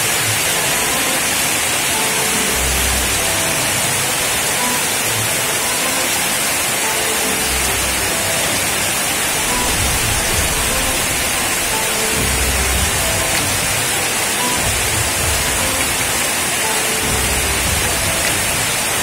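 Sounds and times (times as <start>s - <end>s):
rain on wet pavement: 0.0s - 19.0s.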